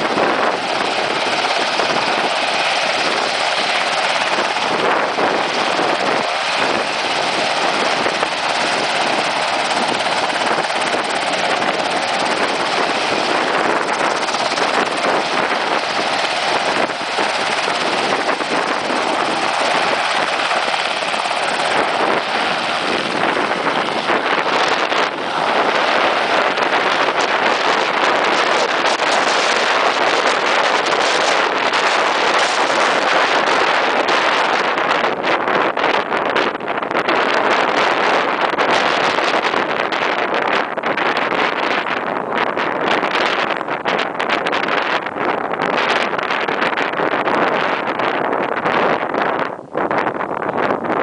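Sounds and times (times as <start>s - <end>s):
helicopter engines and rotor: 0.0s - 51.0s.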